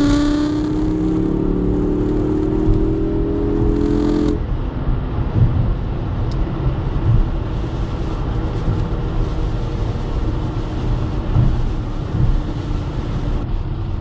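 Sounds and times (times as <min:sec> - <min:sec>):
car engine: 0:00.0 - 0:14.0
road rumble and tyre noise: 0:00.0 - 0:14.0.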